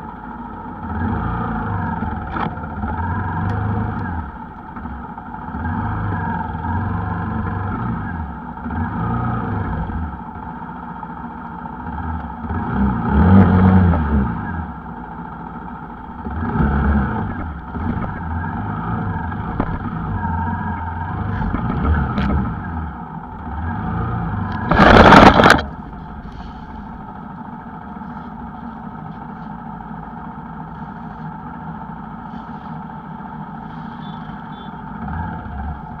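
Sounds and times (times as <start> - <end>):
motorcycle engine revving: 0.7 - 10.8, 11.6 - 36.0.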